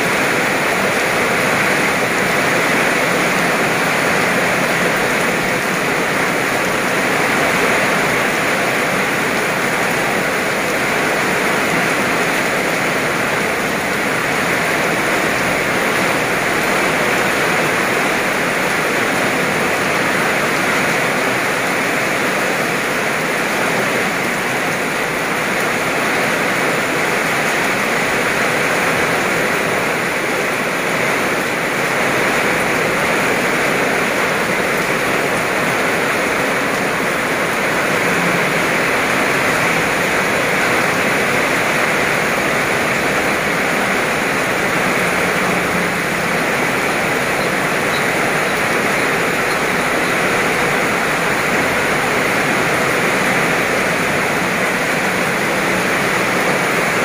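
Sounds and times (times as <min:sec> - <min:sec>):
heavy rain on paved road: 0:00.0 - 0:57.0.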